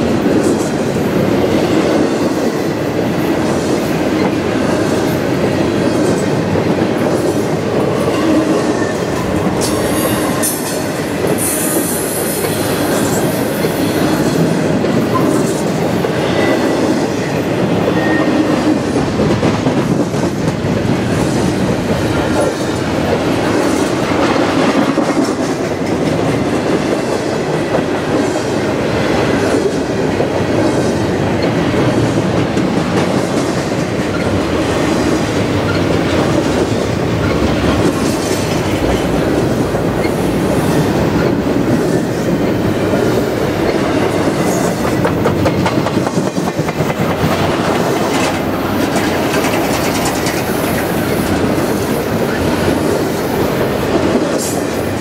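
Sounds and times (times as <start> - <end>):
wheels clacking over rail joints: 0.0 - 54.8
train wheels rumbling on rail: 0.0 - 55.0.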